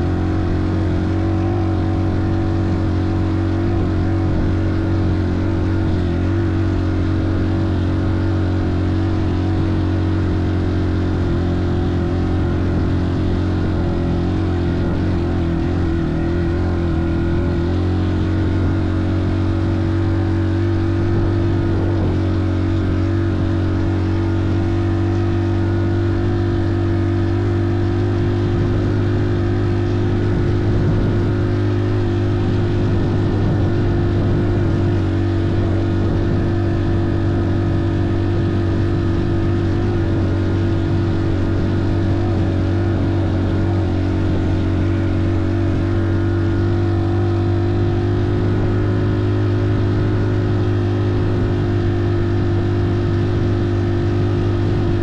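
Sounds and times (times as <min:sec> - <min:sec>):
engine droning: 0:00.0 - 0:55.0
wind and road noise: 0:00.0 - 0:55.0.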